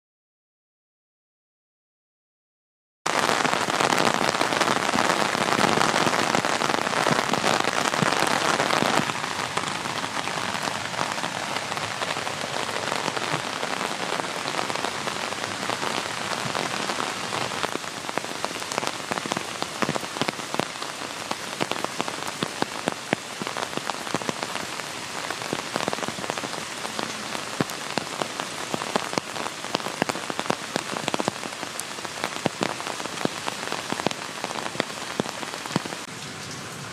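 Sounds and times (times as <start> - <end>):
rain falling: 3.1 - 36.9.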